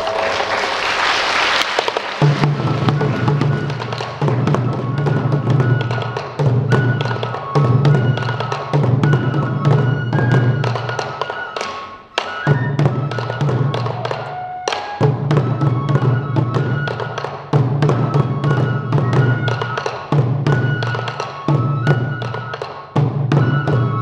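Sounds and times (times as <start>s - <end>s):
bamboo flute melody: 0.0s - 0.7s, 2.2s - 24.0s
taiko drums in driving rhythm: 1.8s - 24.0s.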